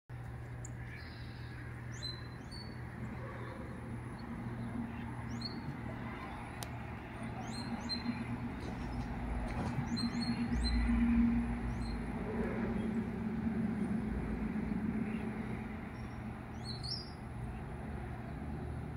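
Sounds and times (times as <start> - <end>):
steady low hum: 0.1 - 18.9
small birds chirping: 0.2 - 13.1, 14.6 - 18.8.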